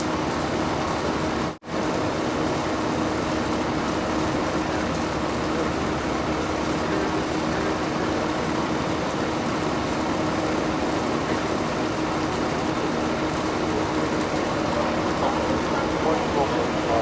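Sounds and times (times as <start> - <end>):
mechanical drone: 0.0 - 17.0.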